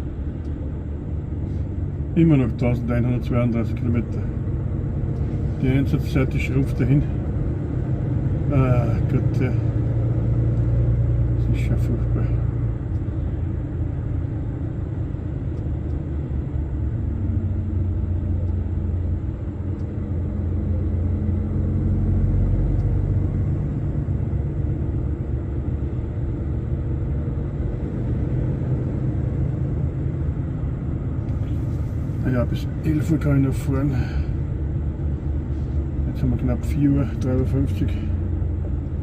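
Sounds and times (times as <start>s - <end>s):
engine low drone: 0.0s - 39.0s
road rumble: 0.0s - 39.0s.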